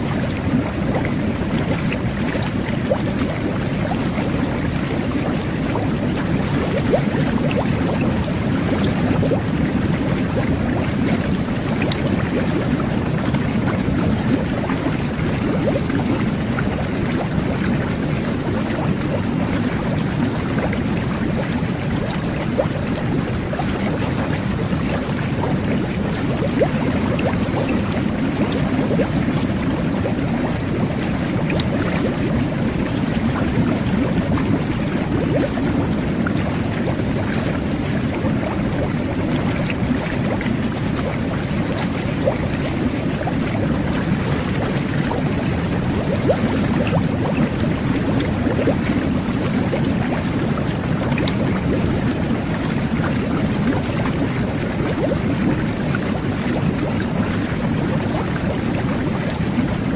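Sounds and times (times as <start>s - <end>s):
bubbling water from bath jets: 0.0s - 59.9s.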